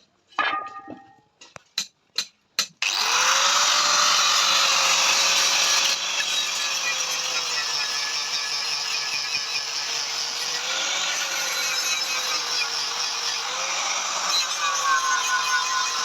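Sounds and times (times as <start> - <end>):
tool rasping sheet metal: 2.6 - 16.0.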